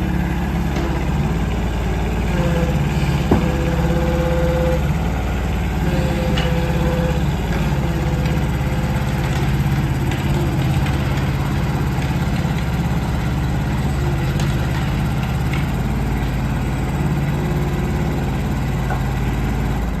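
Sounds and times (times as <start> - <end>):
mini excavator diesel engine running: 0.0 - 20.0.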